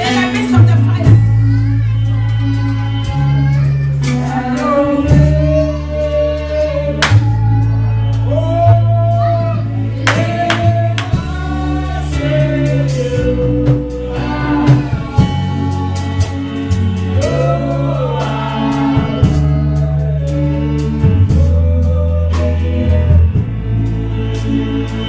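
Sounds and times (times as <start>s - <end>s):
steady drum beat: 0.0s - 3.3s, 4.0s - 24.9s
gospel singing: 0.0s - 25.0s
sustained bass notes: 0.0s - 25.0s.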